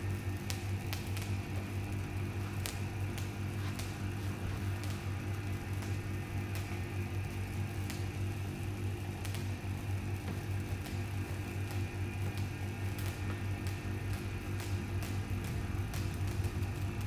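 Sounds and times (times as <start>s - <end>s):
motor and belt hum: 0.0s - 17.0s.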